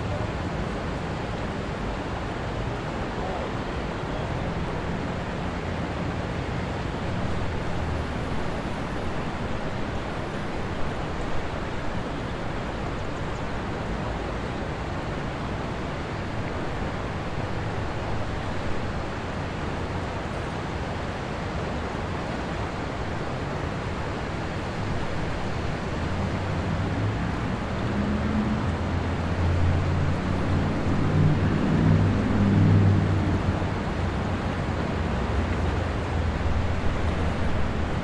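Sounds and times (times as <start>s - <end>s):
river current rushing: 0.0s - 38.0s.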